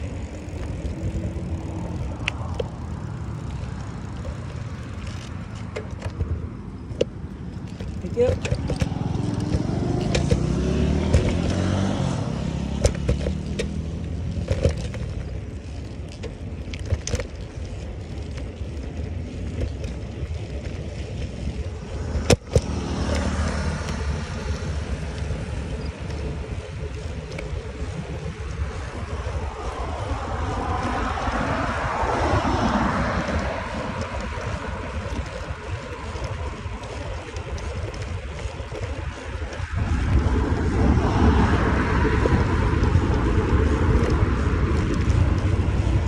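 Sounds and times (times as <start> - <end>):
bike knocking and rattling: 0.0 - 46.0
car passing: 0.0 - 46.0
road traffic: 0.0 - 46.0
wind rumbling on microphone: 0.0 - 46.0.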